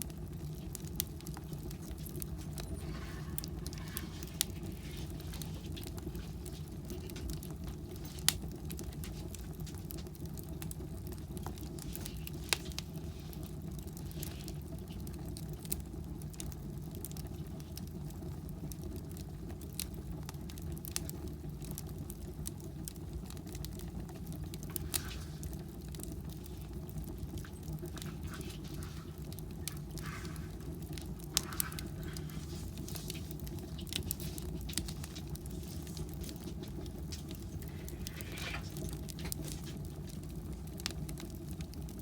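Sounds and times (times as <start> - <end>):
firewood burning with crackles: 0.0 - 42.0.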